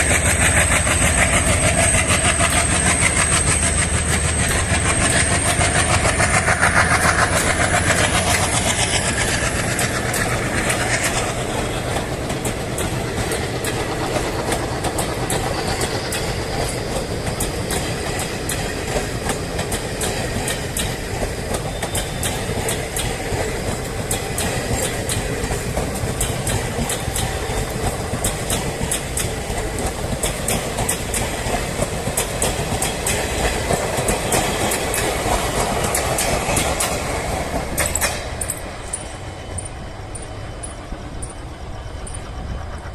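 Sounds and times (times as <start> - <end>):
train wheels clicking over rail joints: 0.0 - 42.9.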